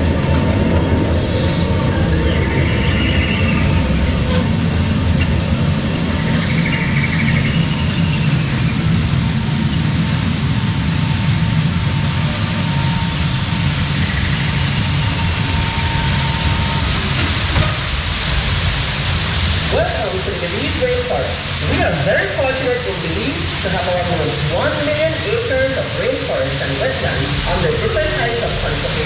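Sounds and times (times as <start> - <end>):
small train rumbling: 0.0 - 29.0.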